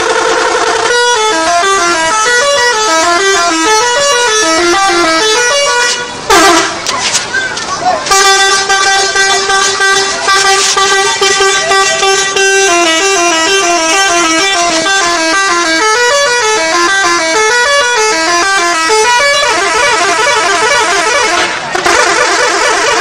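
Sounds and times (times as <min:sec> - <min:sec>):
musical bus horn: 0:00.0 - 0:06.9, 0:08.0 - 0:23.0.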